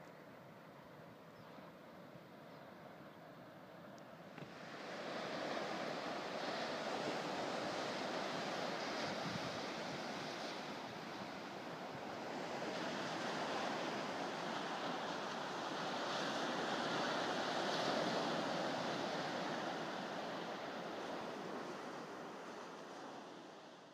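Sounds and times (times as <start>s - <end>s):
surf washing up beach: 4.1s - 23.9s.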